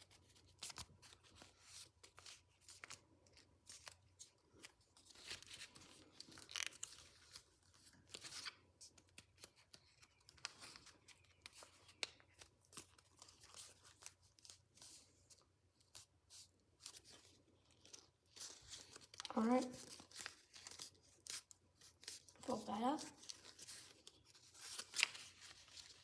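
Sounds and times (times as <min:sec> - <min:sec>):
paper crinkling and rustling: 0:00.0 - 0:26.0.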